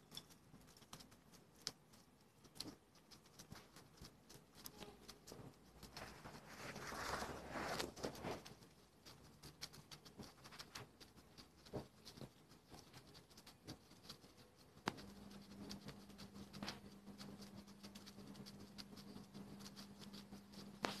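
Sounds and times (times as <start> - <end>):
guinea pigs crunching pellets: 0.0 - 21.0.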